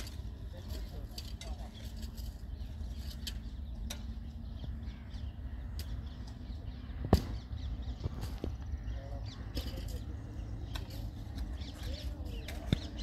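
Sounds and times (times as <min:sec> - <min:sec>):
steady low rumble: 0:00.0 - 0:13.0
faint bird calls: 0:00.8 - 0:13.0.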